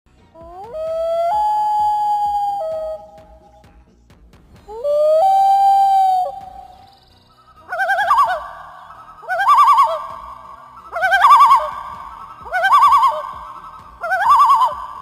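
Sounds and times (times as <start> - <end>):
loon wailing: 0.4 - 3.5, 4.7 - 6.9, 7.6 - 15.0.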